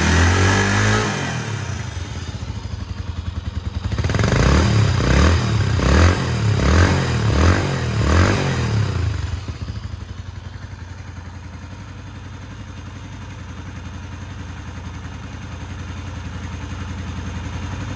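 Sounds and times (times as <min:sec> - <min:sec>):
motorcycle engine revving and idling: 0:00.0 - 0:17.9.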